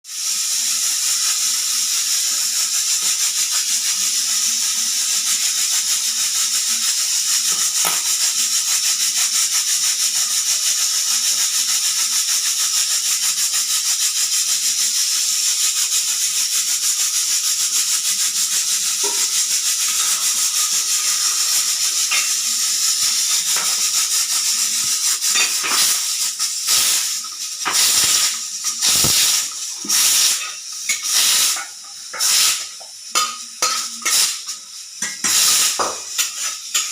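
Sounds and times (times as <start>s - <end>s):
pressure cooker whistle hissing: 0.0s - 36.9s.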